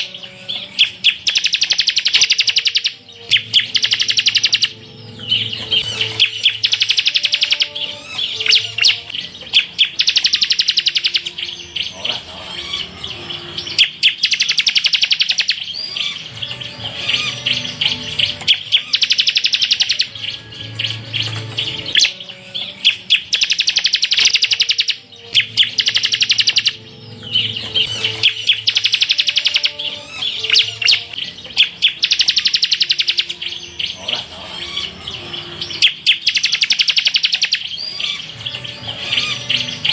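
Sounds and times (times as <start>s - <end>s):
bird trilling: 0.0s - 39.9s
sharp bird chirps: 0.0s - 39.9s.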